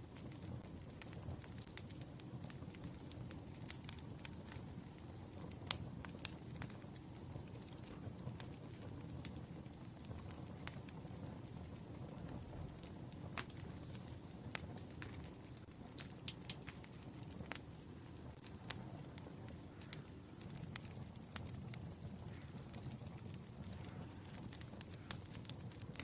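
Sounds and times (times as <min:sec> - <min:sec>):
low rumble of burning logs: 0:00.0 - 0:26.0
wood fire crackling and popping: 0:00.0 - 0:26.0.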